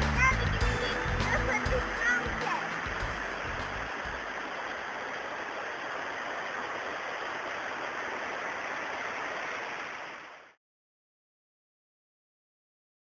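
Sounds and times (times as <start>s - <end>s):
mountain stream rushing over rocks: 0.0s - 10.6s.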